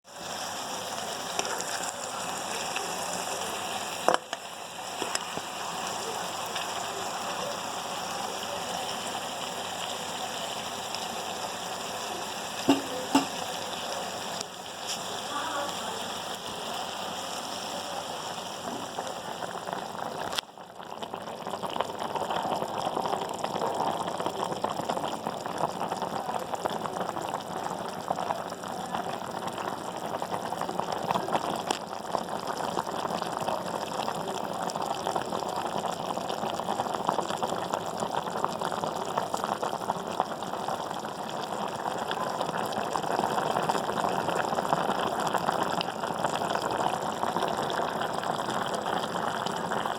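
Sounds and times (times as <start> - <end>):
food crackling and bubbling: 0.0 - 49.9.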